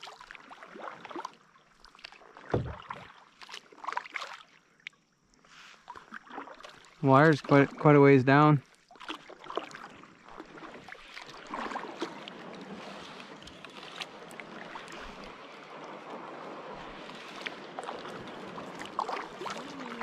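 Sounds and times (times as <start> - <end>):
kayak paddle splashing water: 0.0 - 20.0.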